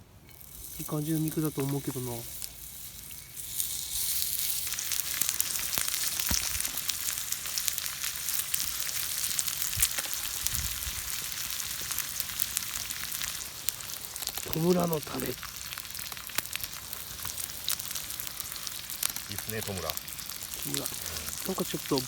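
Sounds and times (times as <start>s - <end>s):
meat sizzling: 0.3s - 22.0s.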